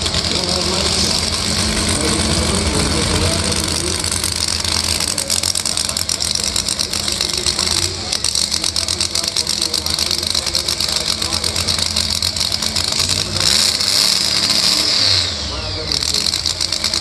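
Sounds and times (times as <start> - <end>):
drag-racing car engine idling: 0.0 - 17.0.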